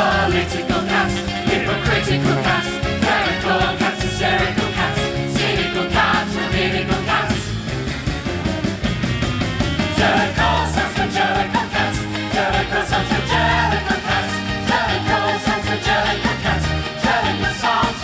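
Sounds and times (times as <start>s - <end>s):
ensemble voices singing: 0.0s - 8.0s, 9.7s - 18.0s
drum beat: 0.0s - 16.7s
upbeat musical theatre band: 0.0s - 18.0s.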